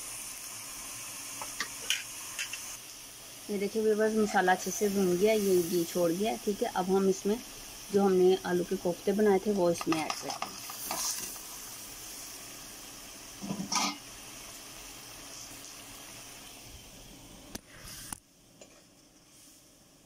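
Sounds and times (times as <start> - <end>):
gravy sizzling and bubbling in pot: 0.0 - 20.0.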